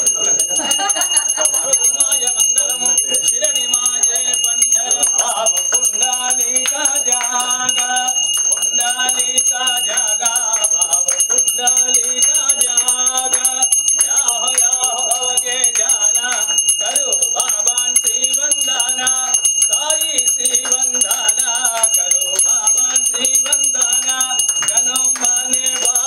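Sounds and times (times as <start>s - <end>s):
bell ringing: 0.0s - 26.0s
devotional singing: 0.0s - 26.0s.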